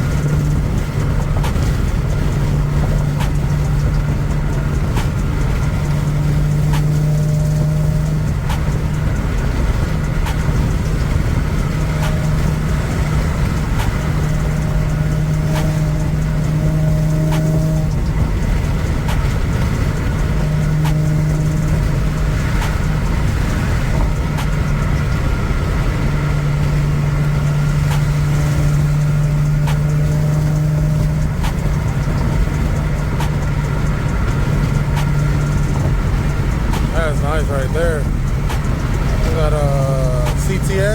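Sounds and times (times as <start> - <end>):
car engine hum: 0.0 - 40.9
road and tyre rumble: 0.0 - 40.9.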